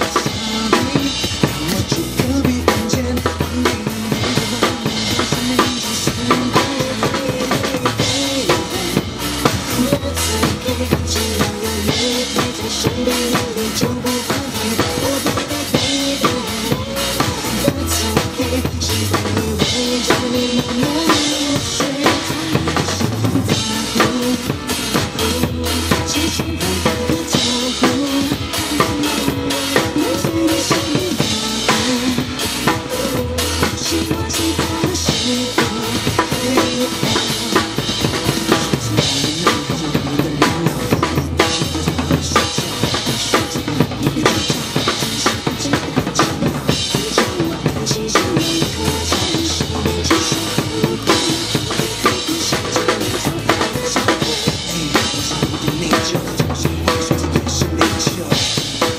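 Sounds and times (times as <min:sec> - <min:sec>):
drum kit beat: 0:00.0 - 0:58.9
pop song backing track: 0:00.0 - 0:58.9.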